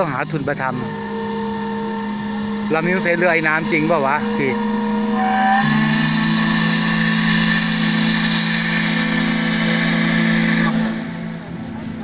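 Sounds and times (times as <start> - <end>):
steam hissing: 0.0 - 11.2
steam whistle blast: 0.6 - 11.2.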